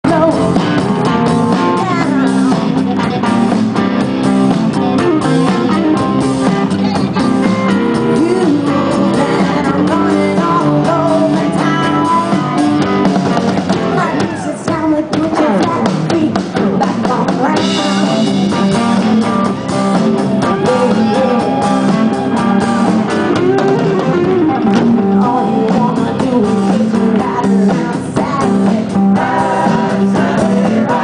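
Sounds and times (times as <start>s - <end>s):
person singing: 0.0s - 3.6s, 4.8s - 31.0s
drum kit with cymbals: 0.0s - 31.0s
electric guitar: 0.0s - 31.0s.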